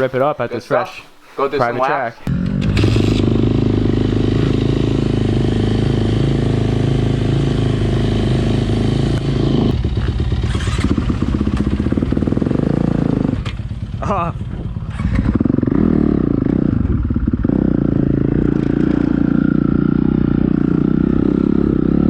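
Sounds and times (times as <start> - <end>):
dirt bike engine running: 2.3 - 22.0.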